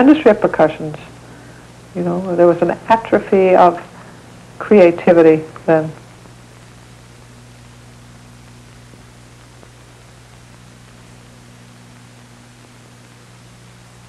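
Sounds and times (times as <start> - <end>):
low electrical hum: 0.0 - 14.0
steady hiss: 0.0 - 14.0.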